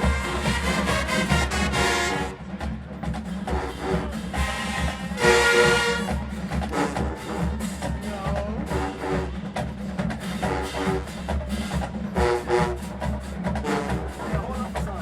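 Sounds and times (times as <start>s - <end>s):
brass chords: 0.0s - 2.8s, 3.4s - 7.8s, 8.6s - 14.6s
drumline percussion: 0.0s - 15.0s.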